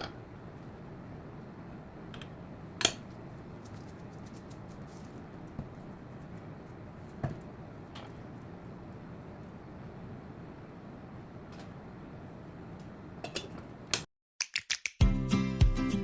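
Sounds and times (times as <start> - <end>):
low background hum: 0.0 - 14.1.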